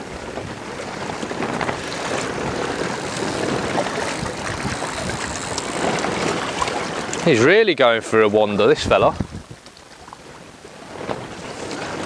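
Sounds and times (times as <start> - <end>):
strong wind on microphone: 0.0 - 9.7, 10.4 - 12.0
waves lapping at bank: 0.0 - 12.0.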